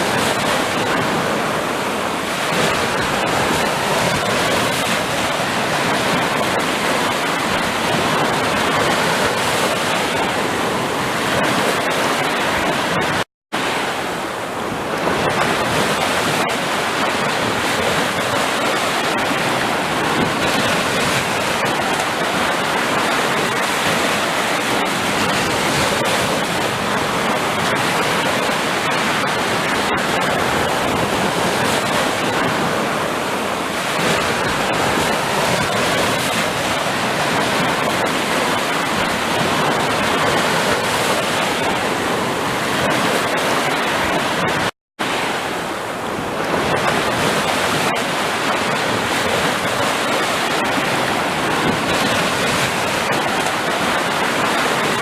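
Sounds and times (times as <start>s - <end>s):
waves washing in: 0.0s - 55.0s.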